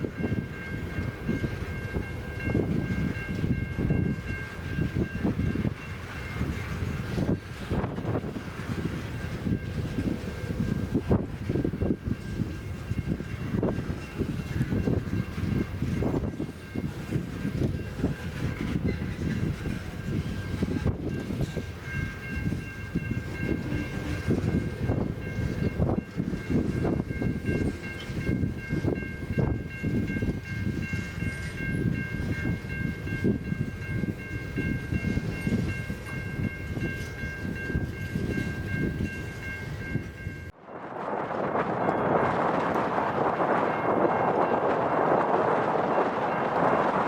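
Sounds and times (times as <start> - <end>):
freight train rolling past: 0.0 - 47.0
wind buffeting microphone: 0.0 - 47.0.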